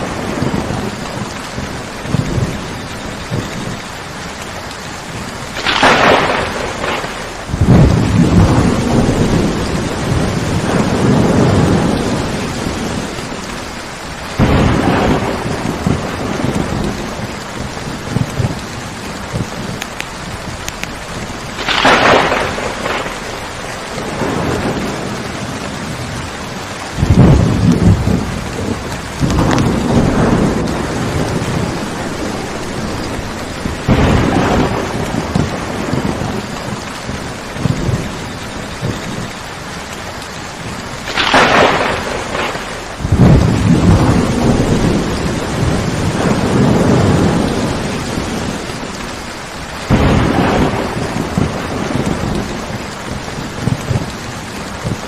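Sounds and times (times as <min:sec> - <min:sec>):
steady rain: 0:00.0 - 0:55.0
thunder claps and rumbles: 0:00.0 - 0:55.0.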